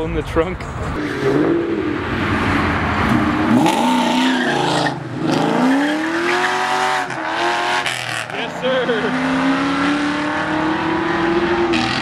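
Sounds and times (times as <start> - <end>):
tires squealing: 1.0 - 10.6
car engine revving: 1.0 - 12.0.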